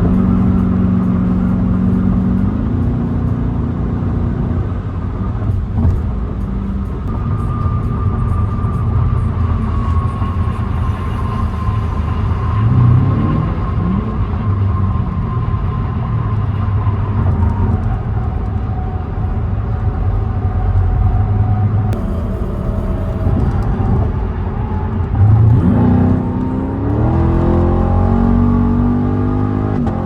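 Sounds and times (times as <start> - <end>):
car engine and exhaust rumbling: 0.0 - 30.0.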